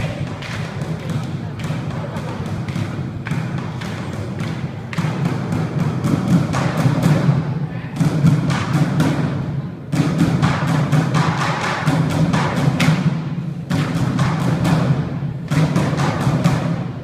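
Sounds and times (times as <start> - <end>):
drum percussion music: 0.0 - 17.0.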